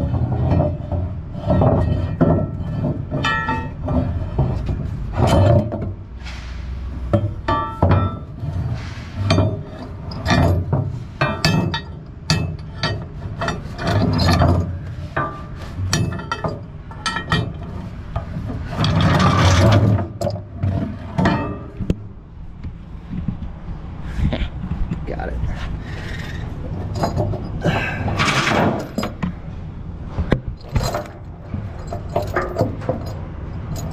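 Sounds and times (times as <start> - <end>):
rubbing and scraping: 0.0 - 21.9, 24.0 - 29.3
metal and wooden knocks and clanks: 0.0 - 23.4, 26.1 - 29.5, 30.1 - 33.9.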